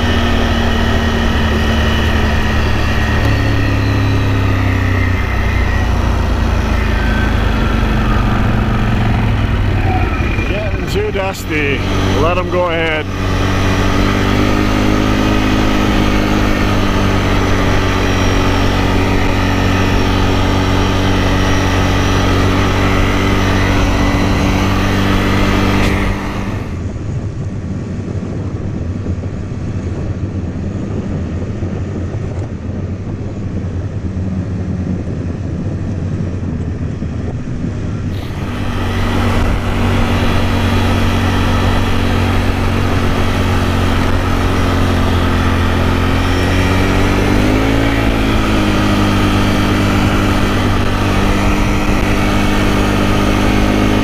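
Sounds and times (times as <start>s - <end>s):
atv engine running: 0.0s - 54.0s
rough engine rumble: 0.0s - 54.0s.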